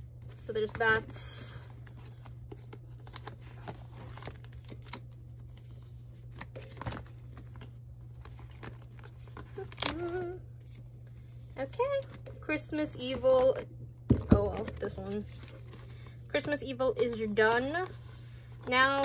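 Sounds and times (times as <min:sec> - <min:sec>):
plastic sleeves rustling: 0:00.0 - 0:19.0
steady low hum: 0:00.0 - 0:19.0.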